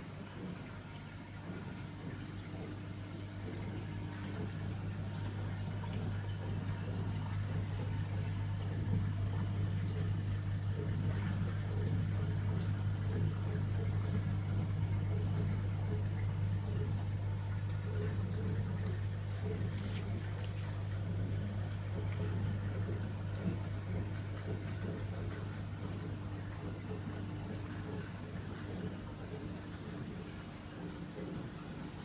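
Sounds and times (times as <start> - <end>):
pumps humming: 0.0 - 32.0
water running and trickling: 0.0 - 32.0.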